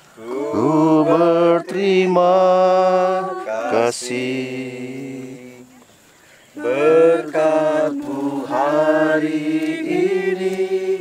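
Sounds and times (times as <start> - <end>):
person singing slowly: 0.2 - 5.8, 6.6 - 11.0.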